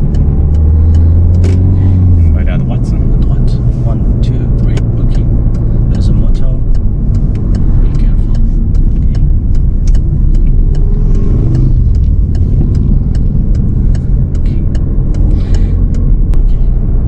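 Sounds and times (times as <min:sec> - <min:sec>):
light ticks: 0:00.0 - 0:16.9
car engine and road noise: 0:00.0 - 0:17.0.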